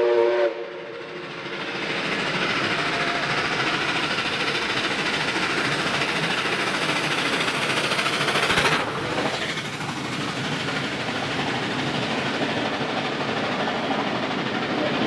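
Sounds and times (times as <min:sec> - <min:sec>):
steam locomotive passing: 0:00.0 - 0:15.0
carriages rolling on rails: 0:00.8 - 0:15.0.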